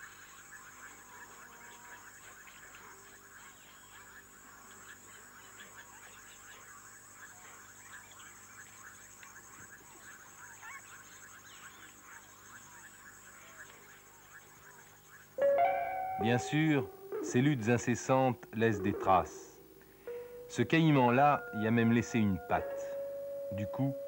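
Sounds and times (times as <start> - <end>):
frogs calling: 0.0 - 24.0.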